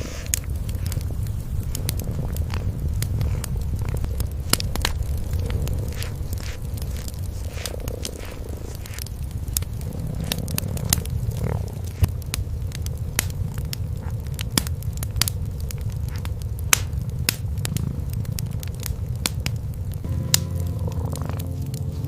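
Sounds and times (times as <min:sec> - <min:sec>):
cat purring: 0:00.0 - 0:22.0
wood fire crackling and popping: 0:00.0 - 0:22.0.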